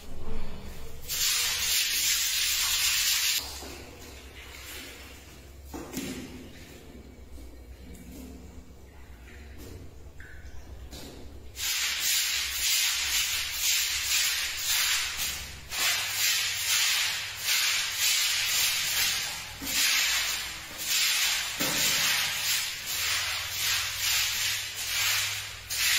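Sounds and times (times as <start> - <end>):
broom scrubbing a tiled floor: 0.0 - 8.5, 11.6 - 25.9.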